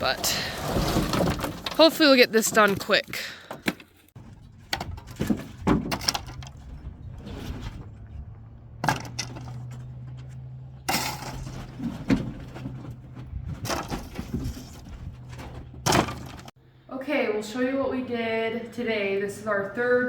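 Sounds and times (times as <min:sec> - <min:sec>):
debris crashing and clattering: 0:00.0 - 0:16.6.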